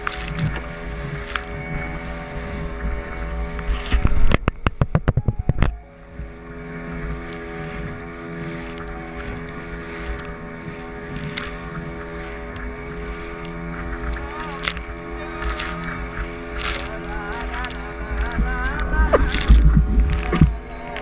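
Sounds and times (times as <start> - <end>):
boat engine running: 0.0 - 21.0
wind on microphone: 0.0 - 21.0.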